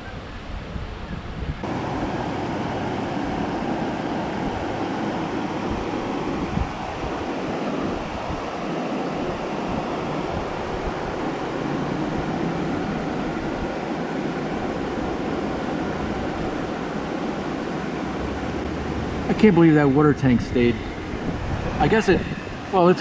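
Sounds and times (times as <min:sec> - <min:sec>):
hurricane wind rushing: 0:00.0 - 0:23.0
moving water: 0:00.0 - 0:23.0.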